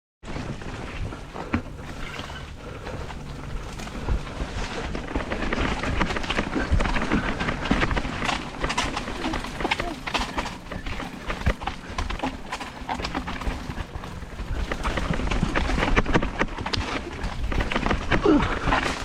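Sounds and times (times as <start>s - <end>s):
bike rattling over bumps: 0.2s - 19.0s
bike tyres on loose ground: 0.2s - 19.0s
steady rushing noise: 0.3s - 19.0s.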